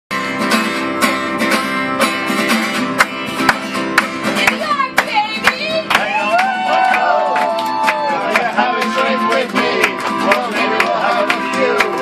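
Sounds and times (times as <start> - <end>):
acoustic guitars strumming: 0.1 - 12.0.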